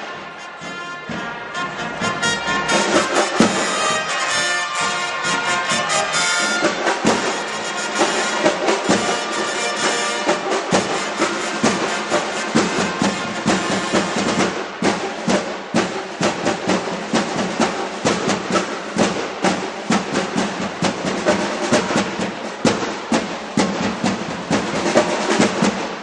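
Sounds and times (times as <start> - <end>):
drum strokes: 0.0 - 26.0
trumpet fanfare: 0.0 - 26.0.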